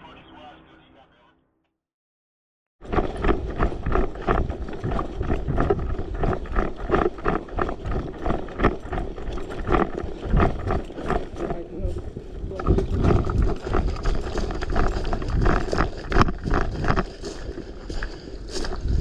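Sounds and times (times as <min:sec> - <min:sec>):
rustling close to microphone: 0:02.8 - 0:19.0.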